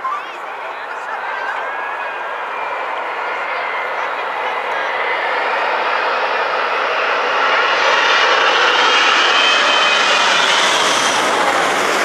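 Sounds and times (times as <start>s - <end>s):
jet airliner engines rushing: 0.0s - 12.0s.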